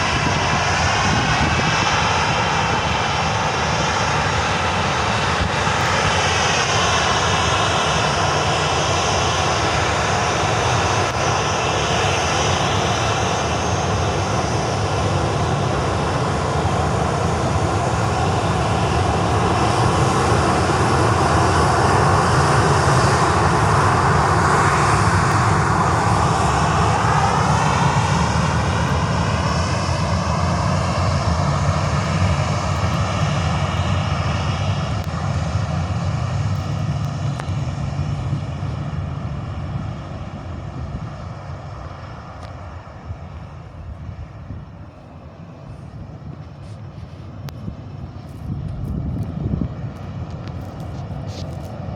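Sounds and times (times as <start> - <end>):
engine whine: 0.0 - 51.9
jet engines roaring: 0.0 - 51.9.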